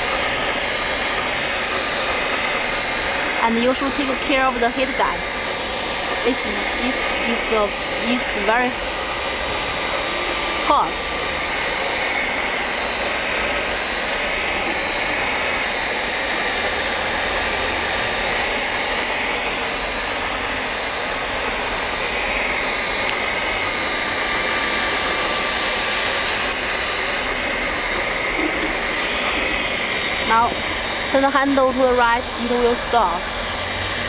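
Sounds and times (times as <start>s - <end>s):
heat gun blower whining: 0.0s - 34.0s.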